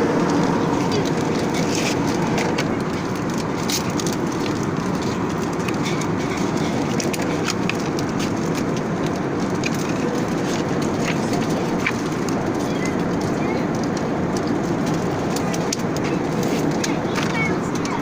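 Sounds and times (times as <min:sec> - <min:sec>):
airplane cabin noise: 0:00.0 - 0:18.0.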